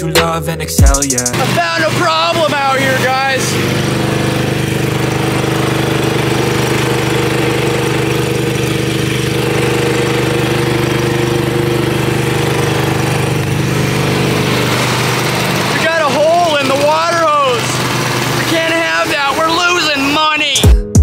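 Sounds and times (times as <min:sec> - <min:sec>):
engine running steadily: 0:00.8 - 0:20.7.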